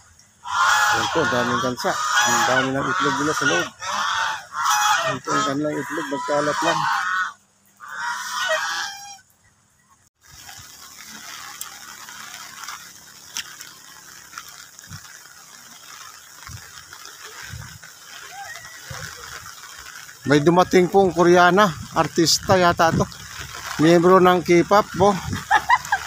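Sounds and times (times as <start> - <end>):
geese honking: 0.4 - 9.4, 10.4 - 26.0.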